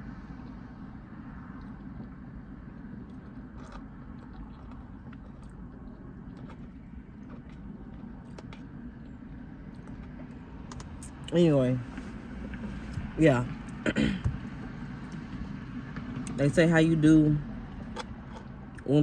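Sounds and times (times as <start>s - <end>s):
person chewing food: 0.0s - 15.6s, 17.7s - 18.9s
low background hum: 0.0s - 19.0s.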